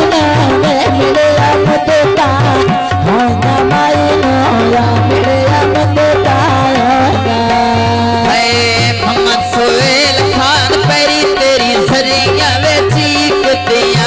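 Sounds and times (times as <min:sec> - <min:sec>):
rhythmic drum beat: 0:00.0 - 0:14.0.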